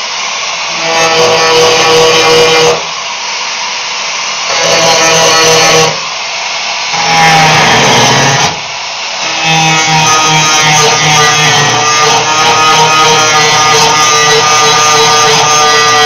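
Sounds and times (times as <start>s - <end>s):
grinder on metal: 0.0s - 16.0s.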